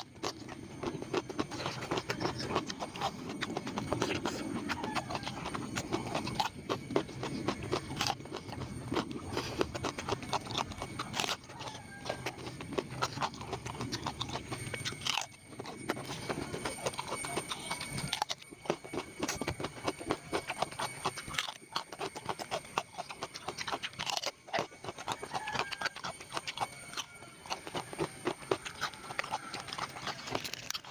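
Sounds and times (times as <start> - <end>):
person chewing food: 0.0 - 30.9.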